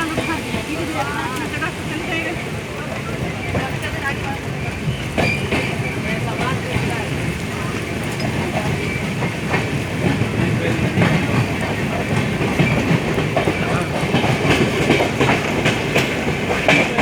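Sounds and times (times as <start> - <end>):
train wheels clickety-clack: 0.0 - 17.0.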